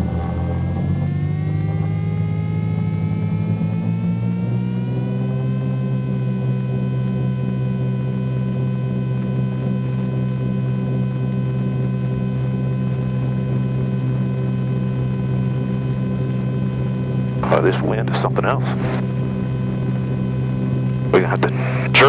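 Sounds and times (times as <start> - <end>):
twin propeller engines droning: 0.0 - 22.0.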